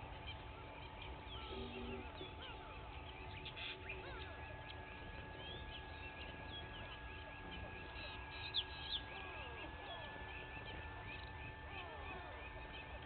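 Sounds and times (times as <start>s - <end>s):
birds chorus chirping: 0.0s - 13.0s
thin steady high tone: 0.0s - 13.0s.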